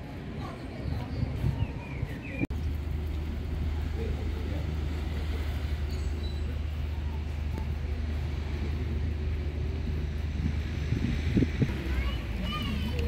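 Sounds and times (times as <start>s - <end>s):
city street low rumble: 0.0s - 13.0s.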